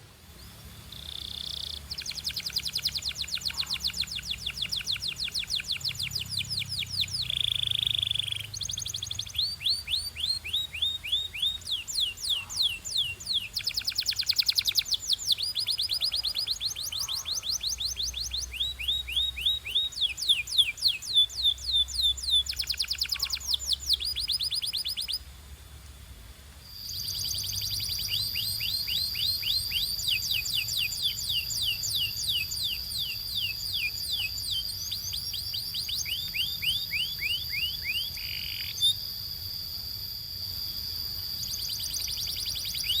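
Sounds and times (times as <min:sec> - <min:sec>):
canary singing trills: 0:00.3 - 0:25.3, 0:26.7 - 0:43.0.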